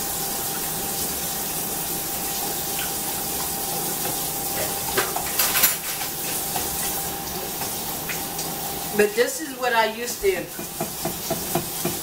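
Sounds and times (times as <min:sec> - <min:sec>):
tap water running into sink: 0:00.0 - 0:09.2, 0:09.9 - 0:12.0.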